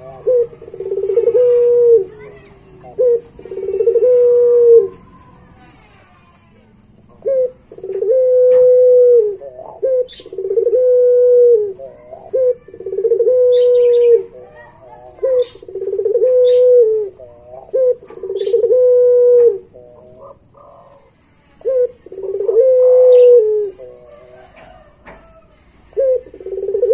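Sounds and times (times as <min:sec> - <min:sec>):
dove cooing: 0:00.0 - 0:05.3, 0:07.0 - 0:26.9.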